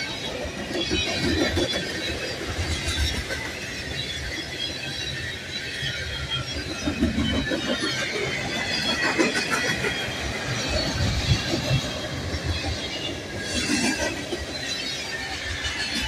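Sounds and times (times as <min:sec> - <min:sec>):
steel wheels rumbling on rail: 0:00.0 - 0:16.0.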